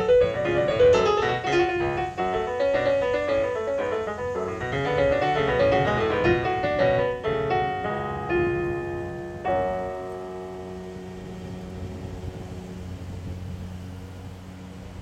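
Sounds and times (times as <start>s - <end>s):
piano playing classical music: 0.0s - 13.5s.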